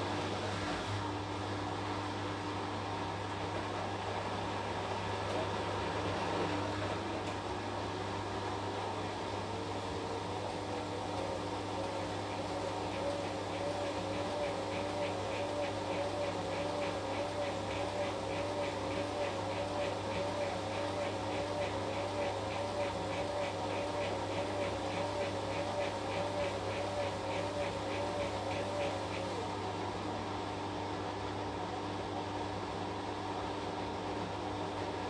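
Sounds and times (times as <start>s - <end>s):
washing machine motor whine: 0.0s - 32.0s.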